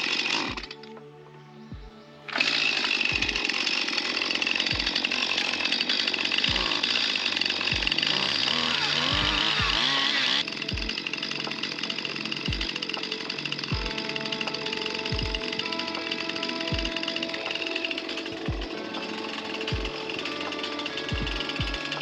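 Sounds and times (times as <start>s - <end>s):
chainsaw running: 0.0s - 0.8s, 2.3s - 22.0s
background music with low beat: 0.0s - 22.0s.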